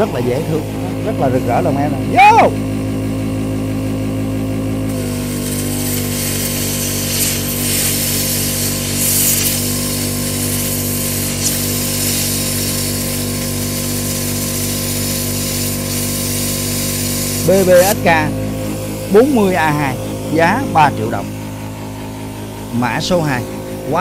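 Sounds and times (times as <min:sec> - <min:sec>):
air compressor hum: 0:00.0 - 0:24.0
plasma arc hissing: 0:04.8 - 0:24.0.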